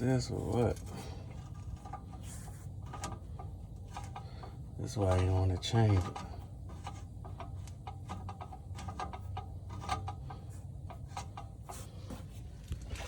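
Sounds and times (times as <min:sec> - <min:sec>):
light clicks and ticks of cable hoist: 0:00.0 - 0:13.0
low steady hum: 0:00.0 - 0:13.0.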